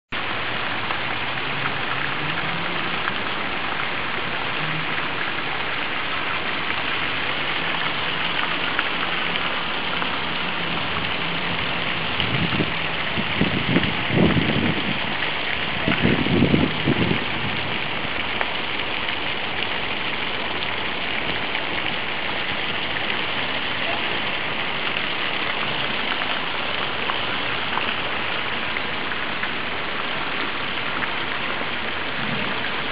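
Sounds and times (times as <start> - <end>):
fountains splashing into basins: 0.2 - 32.9.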